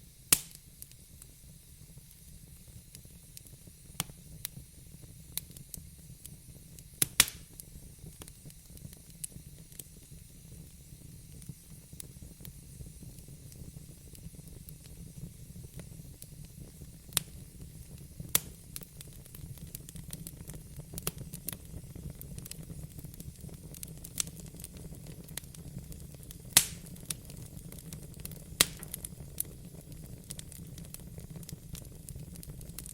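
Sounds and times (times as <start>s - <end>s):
low steady fire rumble: 0.0s - 32.9s
wood fire crackling: 0.0s - 32.9s
sharp pops of fire: 0.2s - 32.9s.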